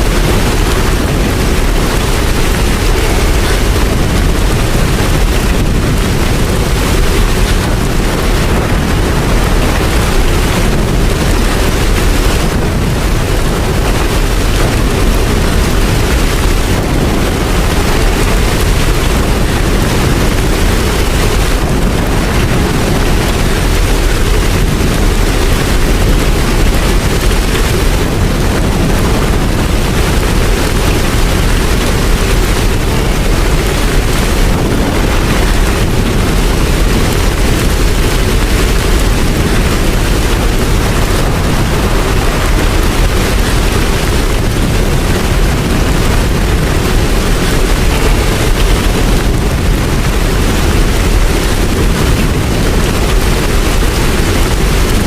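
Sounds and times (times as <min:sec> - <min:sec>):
deep low rumble: 0:00.0 - 0:55.0
heavy rain: 0:00.0 - 0:55.0.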